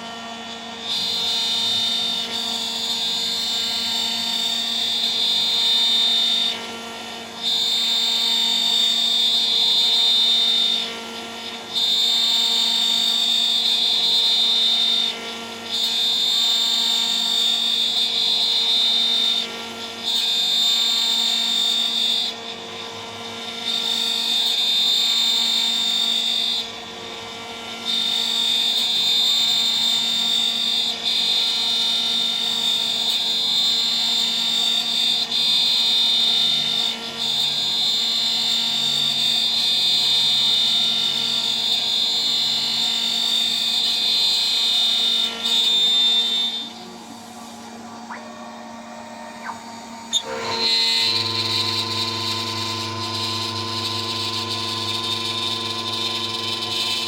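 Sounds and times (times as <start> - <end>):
machine tone with low hum: 0.0 - 57.0
router milling whine: 0.0 - 57.0.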